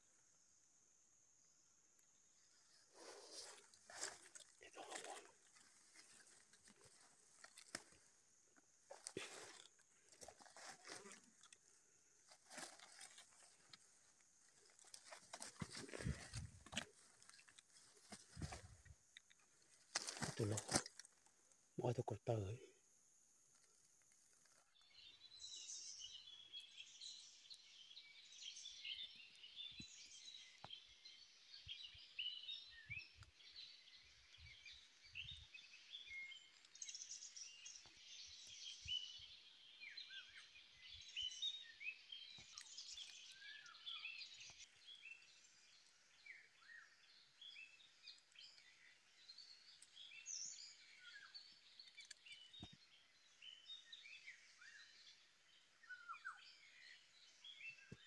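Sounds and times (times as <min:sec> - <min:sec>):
birds chirping and twittering: 0:00.0 - 0:22.9, 0:23.6 - 0:58.0.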